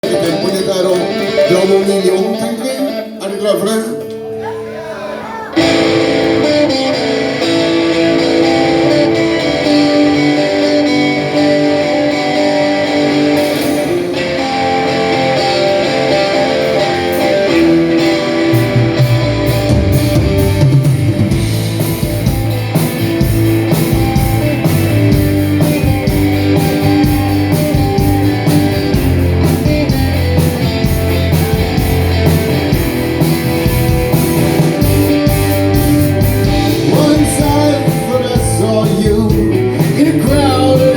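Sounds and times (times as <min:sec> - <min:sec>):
bass guitar: 0:00.0 - 0:03.2, 0:05.5 - 0:40.9
drums: 0:00.0 - 0:40.9
guitar riff: 0:00.0 - 0:40.9.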